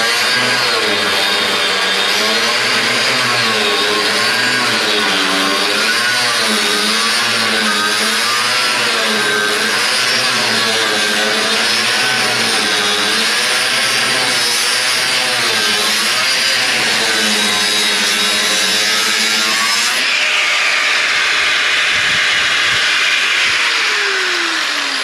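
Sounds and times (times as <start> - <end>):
power saw cutting sheet metal: 0.0 - 25.0.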